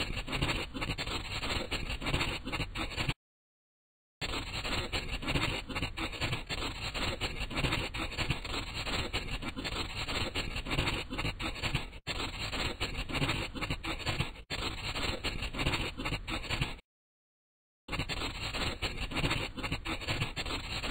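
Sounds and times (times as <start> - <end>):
crayon scribbling on paper: 0.0 - 3.2, 4.2 - 16.8, 17.9 - 20.9.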